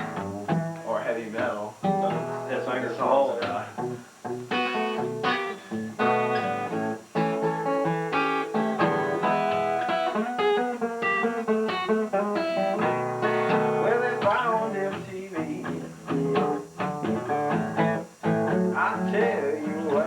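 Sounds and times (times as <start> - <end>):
solo guitar picking: 0.0 - 20.0.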